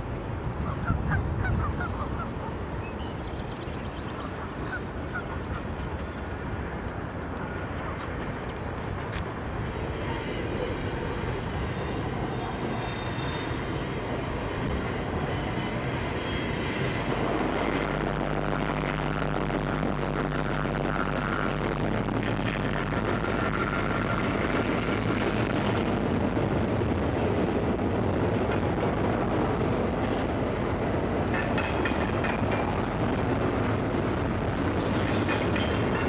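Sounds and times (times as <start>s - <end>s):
diesel locomotive engine hum: 0.0s - 36.0s
freight train wheels rumbling: 0.0s - 36.0s.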